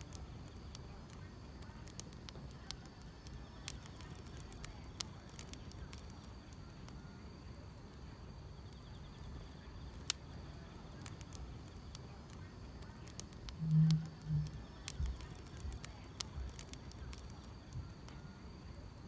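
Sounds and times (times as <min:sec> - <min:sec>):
faint rapid chirping: 0:00.0 - 0:19.0
insects trilling: 0:00.0 - 0:19.0
wood fire crackling: 0:00.0 - 0:19.0.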